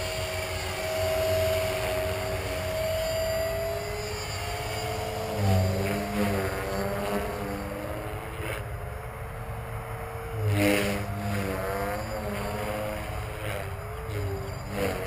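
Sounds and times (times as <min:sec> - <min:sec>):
rc helicopter motor and rotor whine: 0:00.0 - 0:15.0.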